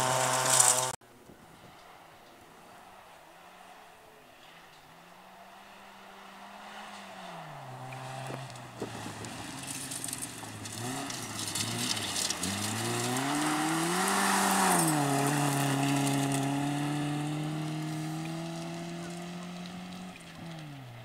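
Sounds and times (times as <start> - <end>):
rally car engine revving: 0.0 - 1.0, 1.9 - 21.0
gravel hissing under tyres: 0.0 - 5.8, 6.4 - 21.0.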